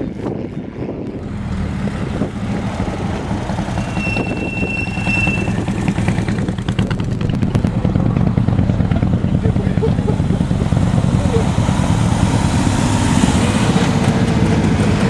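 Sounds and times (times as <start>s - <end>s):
racing car engines: 0.0s - 15.0s.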